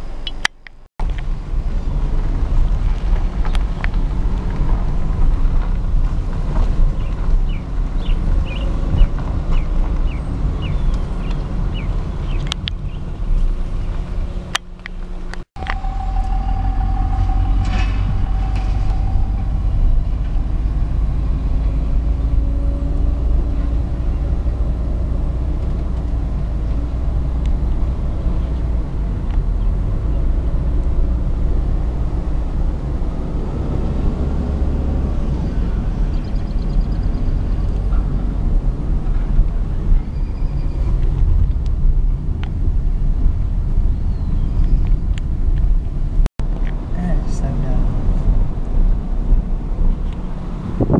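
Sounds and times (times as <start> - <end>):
car interior road rumble: 1.0 - 50.9.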